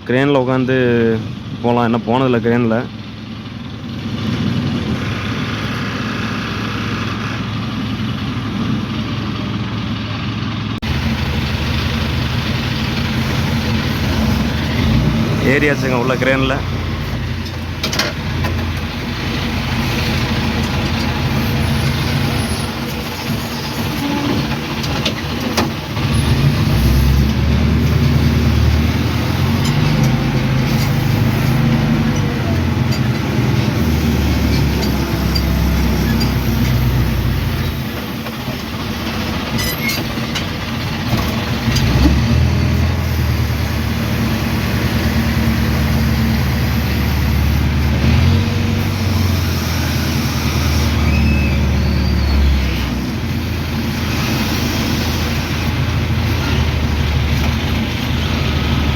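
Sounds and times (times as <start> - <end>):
crane engine revving: 2.9 - 58.9.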